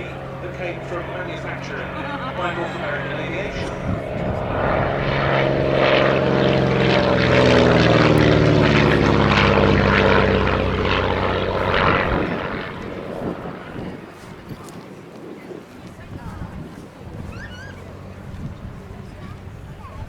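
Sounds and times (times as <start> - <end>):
propeller aircraft flying past: 0.0 - 20.0.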